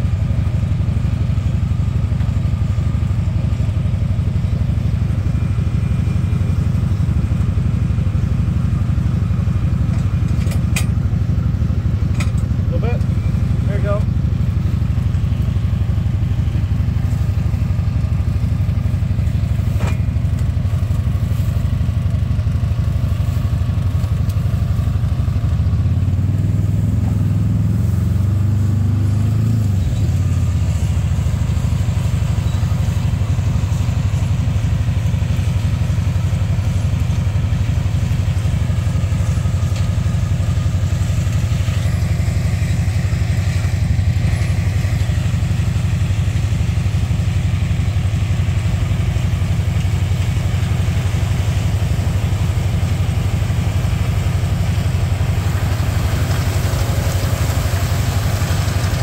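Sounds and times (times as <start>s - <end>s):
combine harvester engine rumbling: 0.0s - 59.0s.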